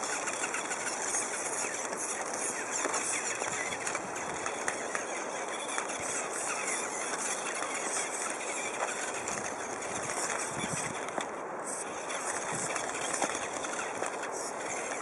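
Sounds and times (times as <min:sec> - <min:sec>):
small electric motors whirring: 0:00.0 - 0:15.0
tyres crackling on rock: 0:00.0 - 0:15.0.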